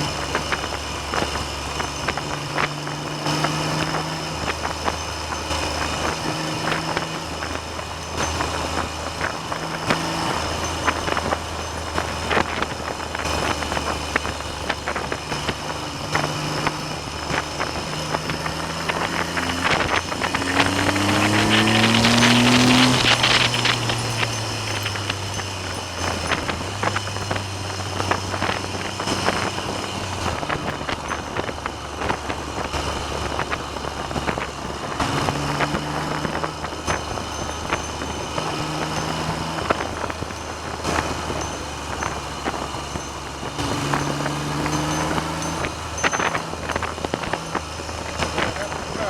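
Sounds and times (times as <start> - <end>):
motorcycle engine running: 0.0 - 49.0
wind noise on microphone: 0.0 - 49.0.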